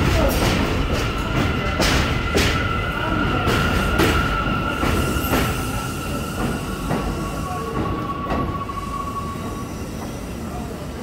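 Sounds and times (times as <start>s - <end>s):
subway wheels squealing: 0.1s - 11.0s.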